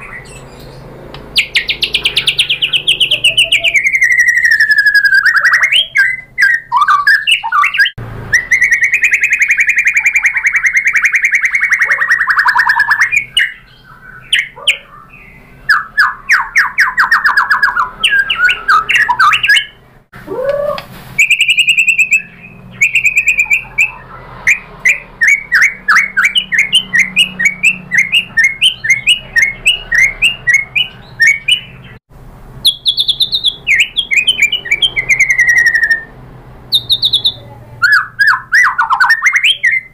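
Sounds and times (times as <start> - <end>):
songbird singing loudly: 0.0 - 32.0, 32.6 - 39.9.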